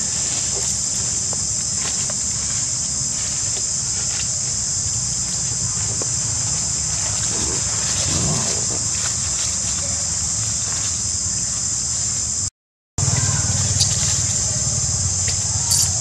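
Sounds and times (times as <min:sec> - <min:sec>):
faint ticks in leaf litter: 0:00.0 - 0:16.0
high-pitched insect chorus: 0:00.0 - 0:16.0.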